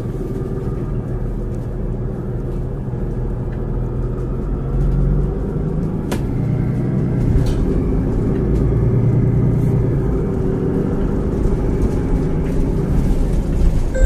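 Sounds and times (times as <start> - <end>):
bus diesel engine idling: 0.0 - 14.0.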